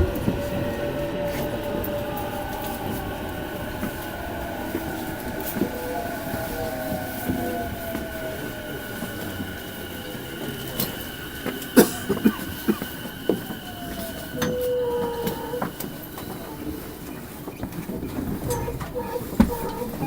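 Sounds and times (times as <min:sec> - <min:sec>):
electric train running: 0:00.0 - 0:20.0.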